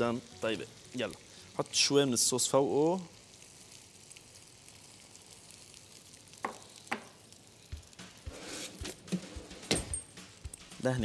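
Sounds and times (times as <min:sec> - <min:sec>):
sauce sizzling on hot chicken: 0:00.0 - 0:09.5, 0:10.1 - 0:11.0.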